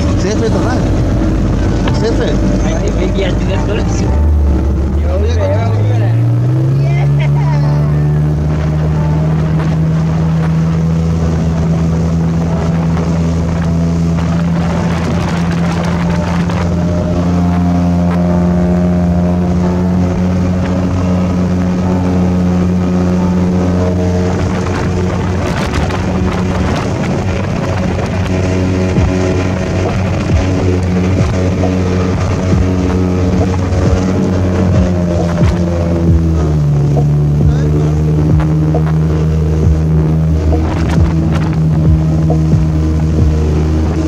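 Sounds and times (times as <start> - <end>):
speedboat engine running: 0.0 - 44.0
wind on microphone: 0.0 - 44.0.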